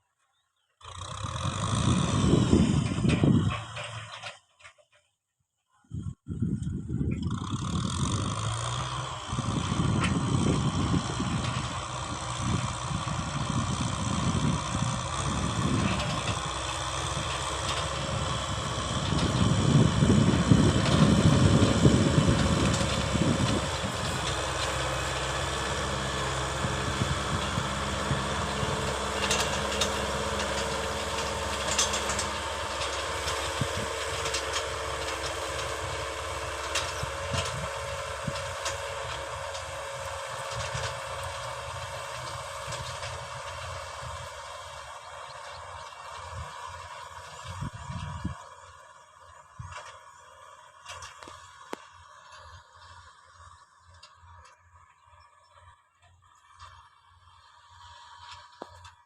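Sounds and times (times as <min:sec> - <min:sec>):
farm machine engine running: 0:00.9 - 0:04.8, 0:06.5 - 0:59.0.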